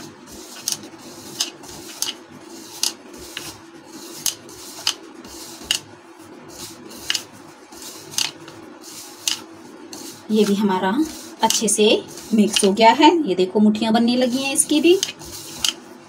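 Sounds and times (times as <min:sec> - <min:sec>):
hand scraping flour in bowl: 0:00.0 - 0:13.0, 0:14.0 - 0:15.9
steady low hum: 0:00.0 - 0:16.0.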